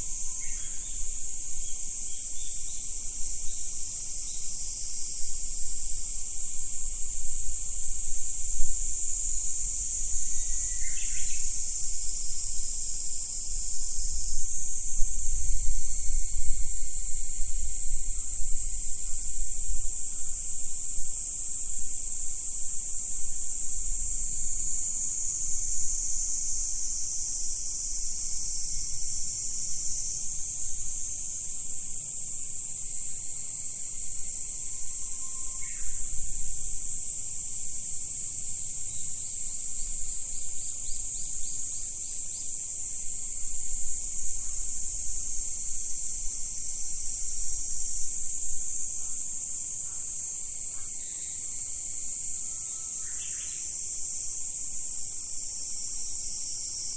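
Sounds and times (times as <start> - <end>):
insects chorus: 0.0 - 56.9.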